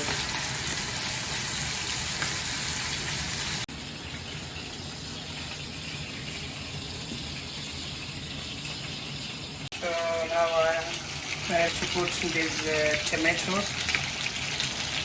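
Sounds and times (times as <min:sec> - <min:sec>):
meat sizzling in hot oil: 0:00.0 - 0:15.0
tap water running: 0:00.0 - 0:15.0.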